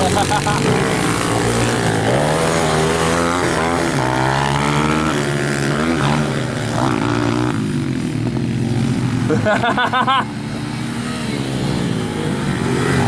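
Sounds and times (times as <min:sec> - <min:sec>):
small motorbike engine revving: 0:00.0 - 0:13.0.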